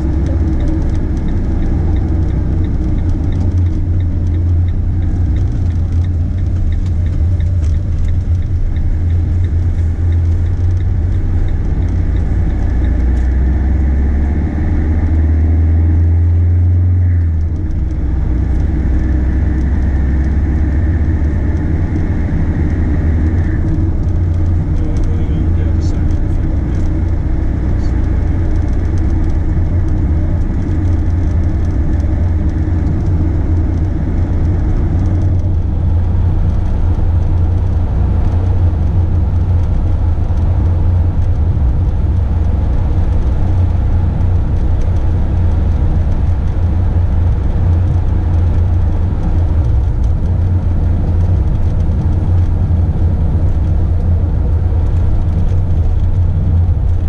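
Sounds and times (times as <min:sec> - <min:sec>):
vehicle engine and tyre rumble: 0:00.0 - 0:57.0.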